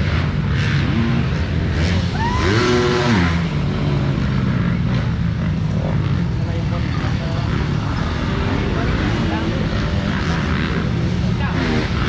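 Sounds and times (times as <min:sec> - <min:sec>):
motocross bike engines running: 0:00.0 - 0:12.0
motorbike engine revving: 0:00.0 - 0:12.0.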